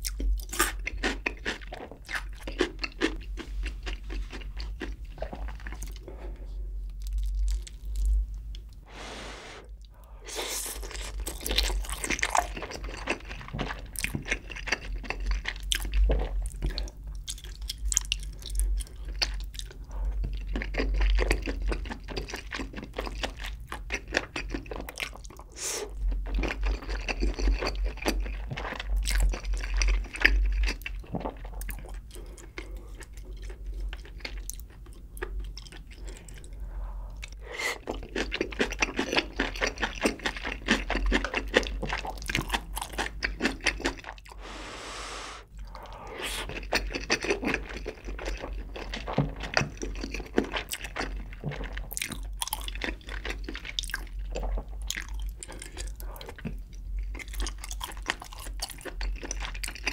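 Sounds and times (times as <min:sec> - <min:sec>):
wet chewing and crunching: 0:00.0 - 0:08.8, 0:10.6 - 0:44.4, 0:45.5 - 0:59.9.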